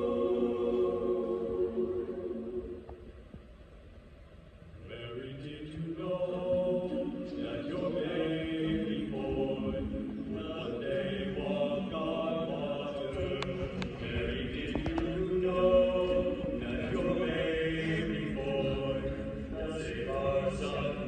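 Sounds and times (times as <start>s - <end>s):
choir singing sustained chords: 0.0s - 21.0s.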